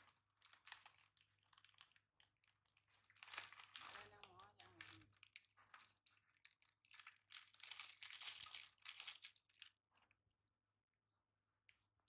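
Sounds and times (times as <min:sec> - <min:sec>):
plastic packet crinkling: 0:00.0 - 0:09.8.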